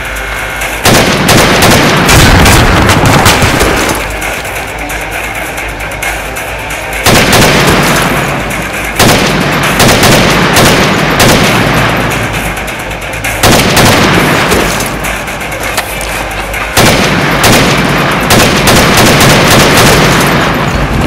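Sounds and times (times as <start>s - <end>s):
echoing gunshots: 0.6s - 4.7s, 6.9s - 15.6s, 16.2s - 21.0s.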